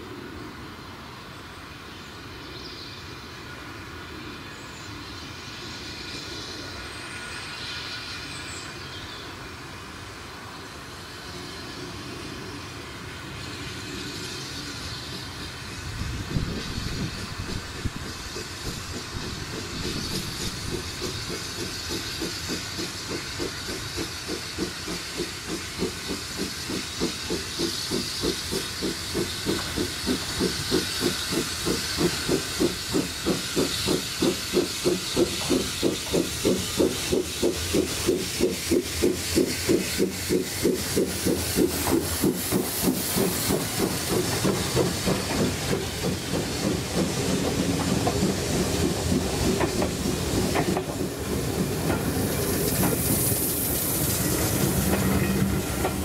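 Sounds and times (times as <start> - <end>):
steam hissing: 0.1 - 56.0
steam locomotive exhaust beats: 3.1 - 56.0.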